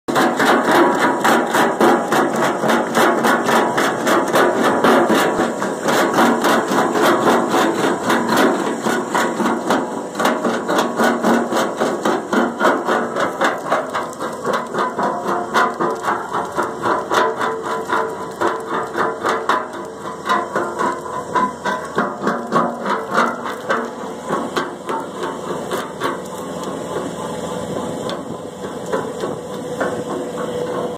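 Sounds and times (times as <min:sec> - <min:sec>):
rock cracking in crusher: 0:00.1 - 0:30.9
skid steer engine: 0:00.1 - 0:30.9.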